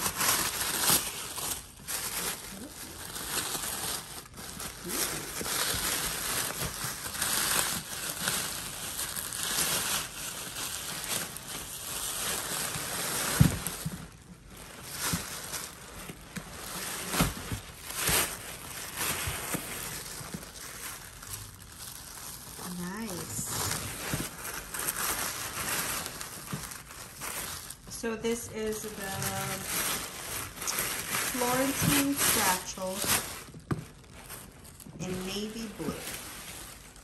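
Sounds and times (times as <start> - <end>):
paper and plastic rustling: 0.0 - 37.0.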